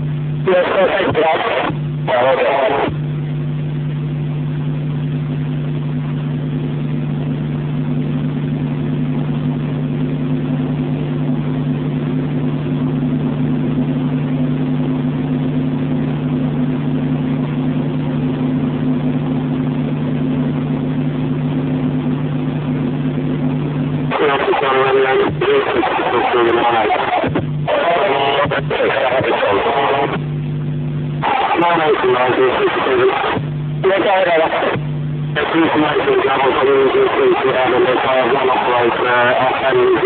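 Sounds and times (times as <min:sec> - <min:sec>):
helicopter engine and rotors: 0:00.0 - 0:40.0.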